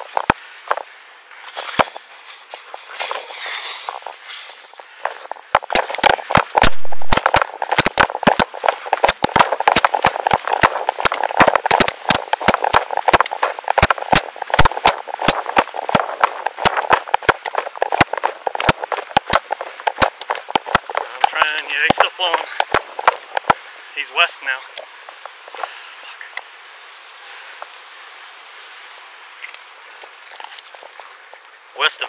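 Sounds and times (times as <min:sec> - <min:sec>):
steady rushing noise: 0:00.0 - 0:25.7
running footsteps on dirt: 0:00.0 - 0:25.8, 0:30.0 - 0:31.7.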